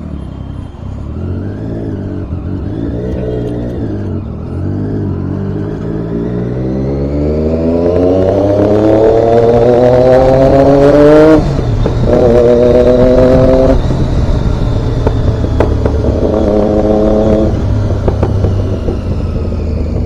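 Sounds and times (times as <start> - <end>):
wind and road noise: 0.0 - 20.0
motorcycle engine under throttle: 1.0 - 20.0.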